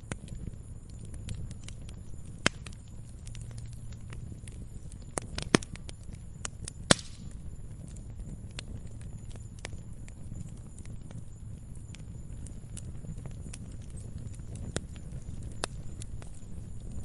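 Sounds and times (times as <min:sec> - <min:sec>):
low steady rumble: 0:00.0 - 0:17.0
wood fire crackling and popping: 0:00.0 - 0:17.0.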